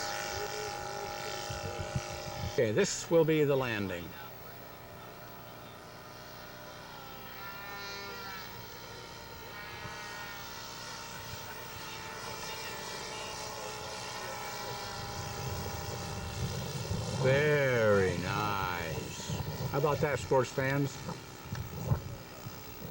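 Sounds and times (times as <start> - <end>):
model plane engine and propeller: 0.0 - 22.9.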